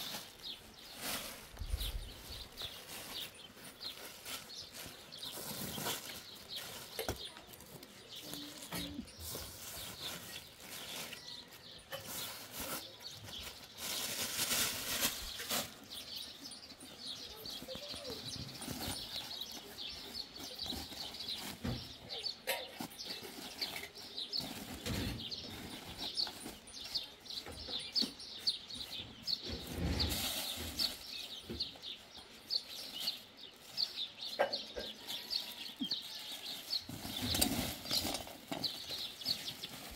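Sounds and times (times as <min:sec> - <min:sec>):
rustling of cloth and plastic: 0:00.0 - 0:39.9
small birds chirping: 0:00.0 - 0:39.9.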